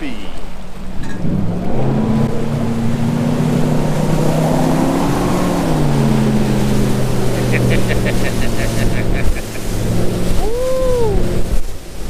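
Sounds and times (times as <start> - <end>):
rushing water and wind: 0.0 - 12.0
outboard engine accelerating: 0.6 - 12.0.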